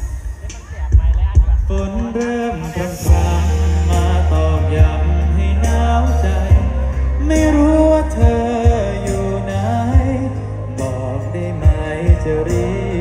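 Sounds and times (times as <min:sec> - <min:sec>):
live band playing: 0:00.0 - 0:13.0
person singing: 0:00.0 - 0:13.0.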